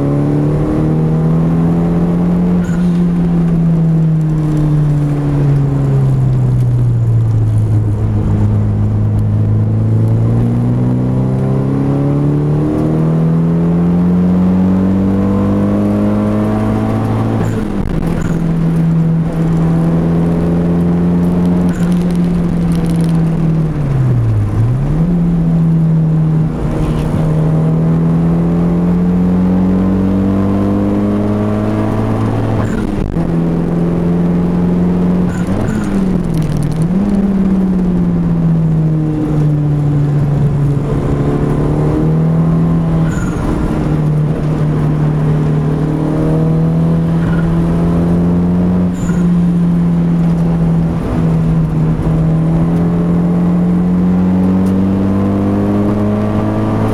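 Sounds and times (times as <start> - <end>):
car engine driven hard: 0.0 - 56.9.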